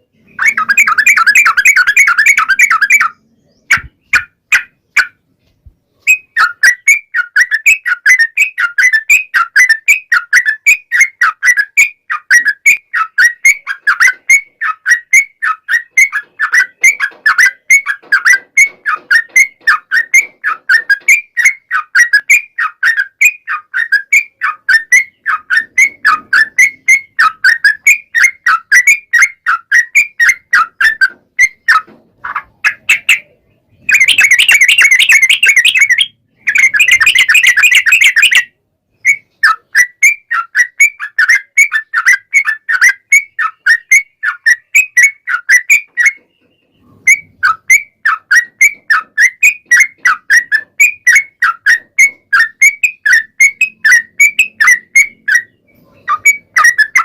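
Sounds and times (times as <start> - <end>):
bird singing chattering whistles: 0.1 - 5.2, 5.9 - 57.0.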